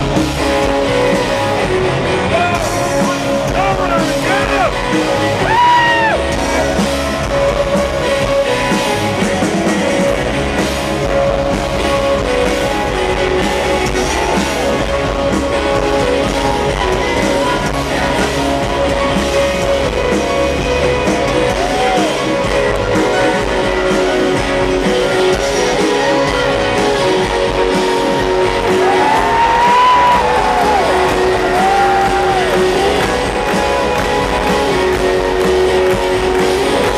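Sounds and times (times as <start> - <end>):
drum kit: 0.0 - 36.9
electric guitars: 0.0 - 36.9.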